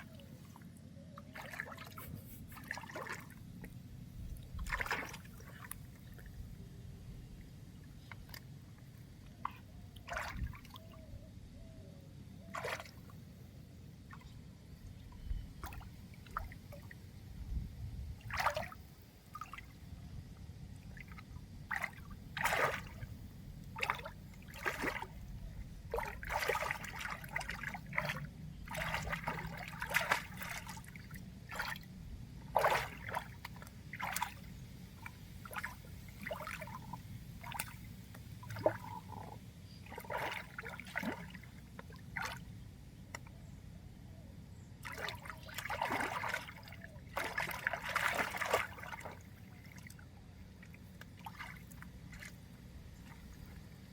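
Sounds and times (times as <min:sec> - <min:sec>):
water splashing and trickling: 0:00.0 - 0:11.1, 0:12.4 - 0:43.4, 0:44.7 - 0:53.9.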